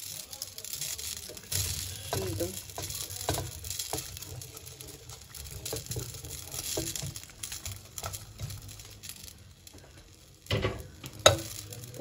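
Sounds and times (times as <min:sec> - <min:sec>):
pasta dropping into a pot: 0:00.0 - 0:12.0
wooden spoon scraping colander: 0:00.0 - 0:12.0.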